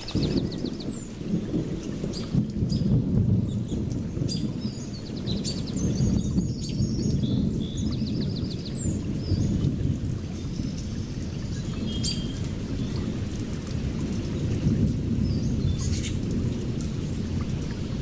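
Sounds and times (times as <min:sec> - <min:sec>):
rain: 0:00.0 - 0:18.0
thunder rumbling: 0:00.0 - 0:18.0.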